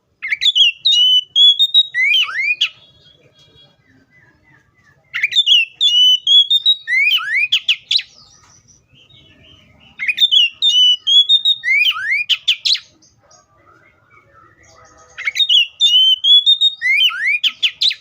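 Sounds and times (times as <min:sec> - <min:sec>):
bird singing whistled phrases: 0:00.2 - 0:08.2, 0:09.0 - 0:12.9, 0:13.8 - 0:18.0.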